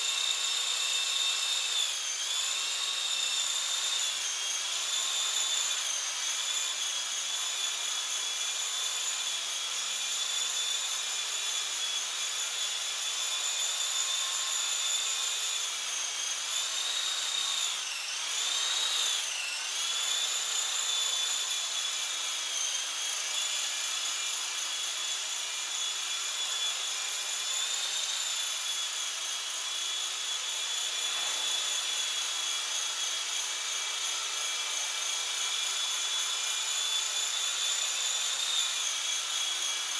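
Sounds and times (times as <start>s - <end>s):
toy helicopter rotor whine: 0.0s - 39.9s.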